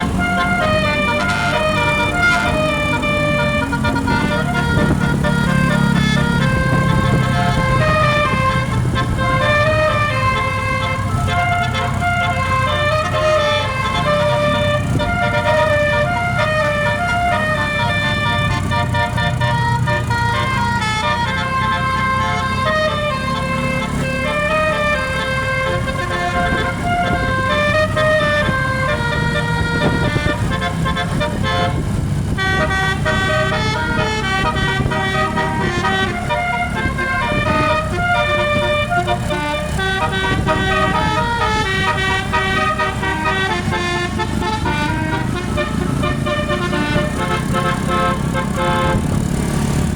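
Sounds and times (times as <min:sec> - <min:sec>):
bus engine running: 0:00.0 - 0:49.9
bus horn playing a tune: 0:00.0 - 0:49.9.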